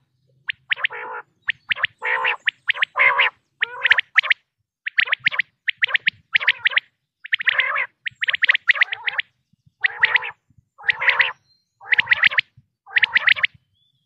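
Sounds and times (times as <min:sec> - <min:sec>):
quail calling: 0:00.0 - 0:13.6.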